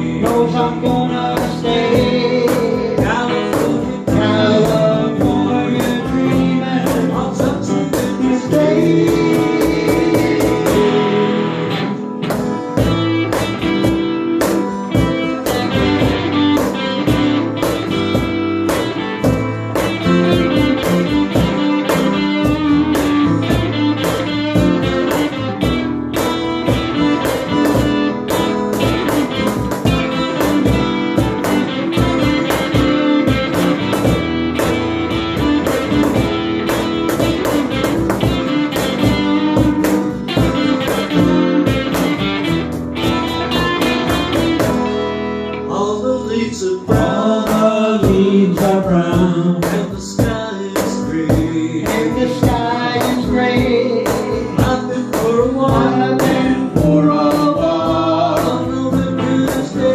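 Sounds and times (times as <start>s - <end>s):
cajon beat: 0.0s - 59.9s
electric guitar playing lead: 0.0s - 59.9s
strummed acoustic guitar: 0.0s - 59.9s.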